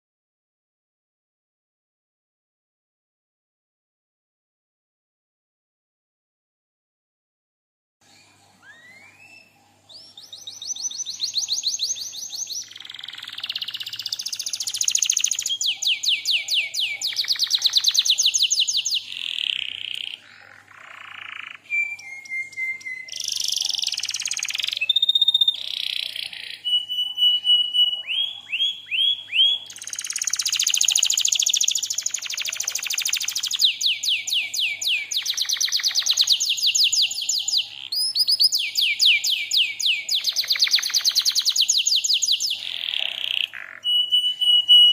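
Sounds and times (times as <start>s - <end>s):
canary singing trills: 8.0s - 44.9s.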